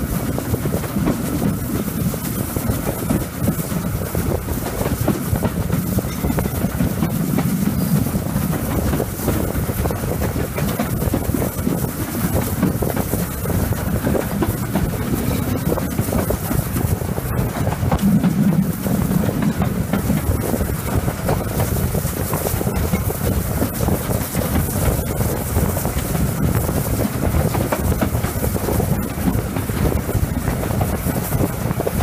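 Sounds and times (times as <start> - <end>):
steam locomotive running: 0.0 - 32.0.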